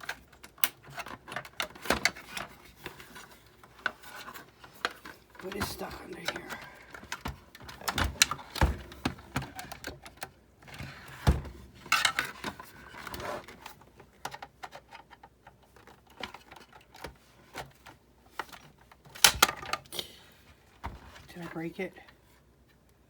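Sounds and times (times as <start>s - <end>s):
plastic and metal parts clicking: 0.0s - 19.9s.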